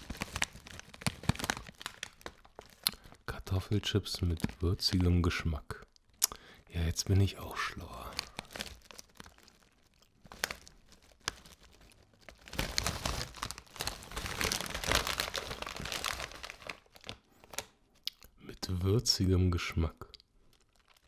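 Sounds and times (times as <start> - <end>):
plastic crisp bag crinkling: 0.0 - 17.8.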